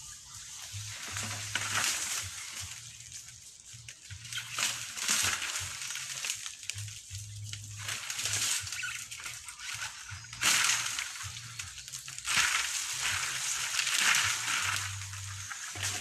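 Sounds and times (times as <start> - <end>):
dry leaves rustling and crunching: 0.0 - 16.0.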